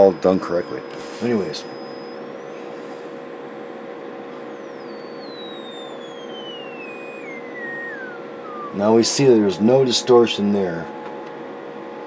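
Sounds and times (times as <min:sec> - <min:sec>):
test tone sweeping down: 0:00.0 - 0:03.1, 0:04.1 - 0:12.0
steady hum and hiss: 0:00.0 - 0:12.0.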